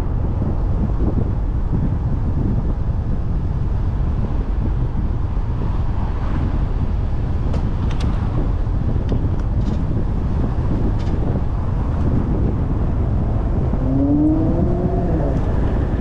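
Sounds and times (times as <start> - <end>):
car wind and road noise: 0.0 - 16.0.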